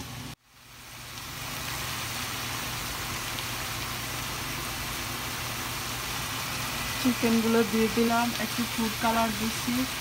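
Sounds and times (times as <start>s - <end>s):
chicken sizzling in a pan: 0.1s - 10.0s.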